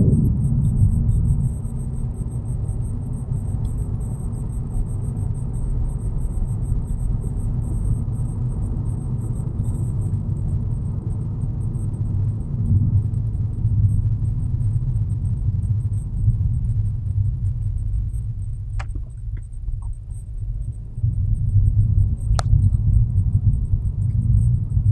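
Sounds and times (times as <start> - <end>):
low brake hum inside car: 0.0 - 24.9.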